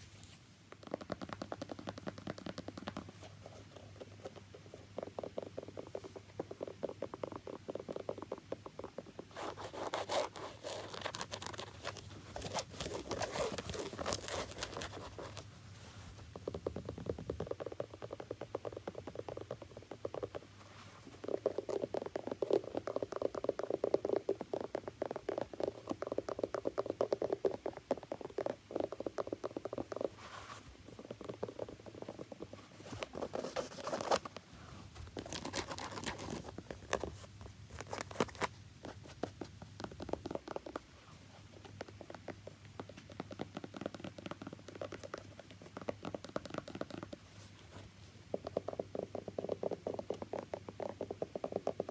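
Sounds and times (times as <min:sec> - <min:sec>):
tapping and scratching on a shoe: 0:00.6 - 0:51.9.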